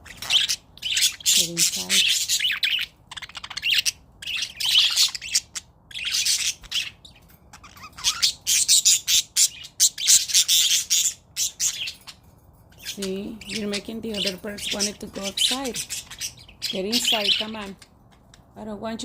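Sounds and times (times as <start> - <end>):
budgerigars chirping: 0.0 - 18.5.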